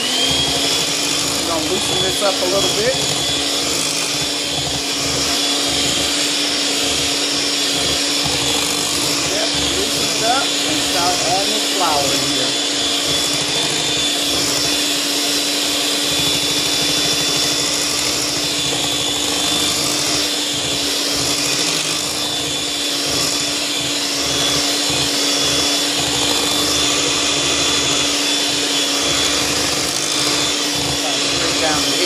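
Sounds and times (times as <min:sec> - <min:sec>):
electric hand mixer whirring: 0:00.0 - 0:32.0.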